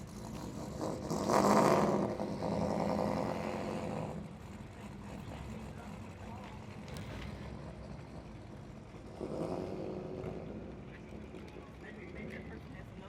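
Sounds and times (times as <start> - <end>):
car engine: 0.0 - 11.4.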